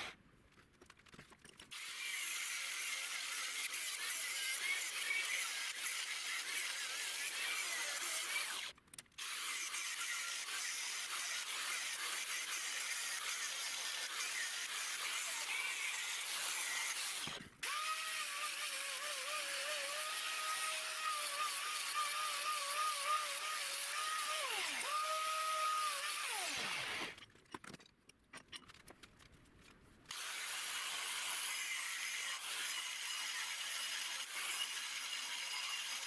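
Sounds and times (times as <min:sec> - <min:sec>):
angle grinder cutting steel: 0:01.7 - 0:27.2, 0:30.1 - 0:36.0.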